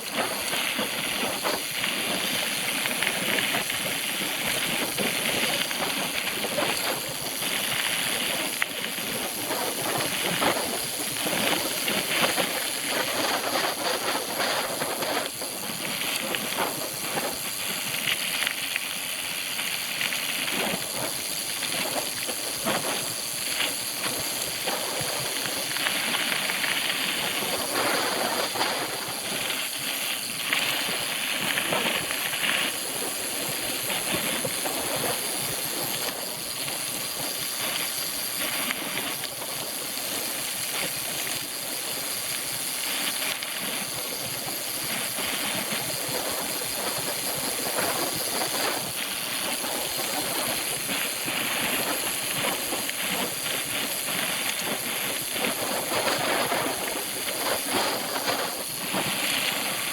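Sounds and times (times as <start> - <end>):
tyre and wind hiss: 0.0 - 59.9.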